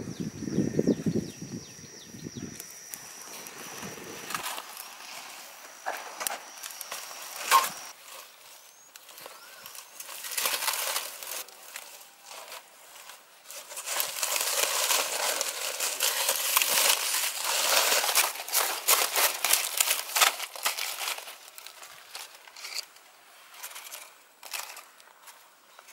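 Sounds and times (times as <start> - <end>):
aluminium foil crinkling and tearing: 2.9 - 25.9.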